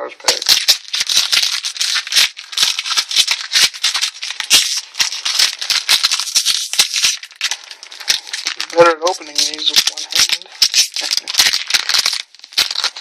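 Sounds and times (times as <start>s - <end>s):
foil wrapper crinkling: 0.2s - 13.0s.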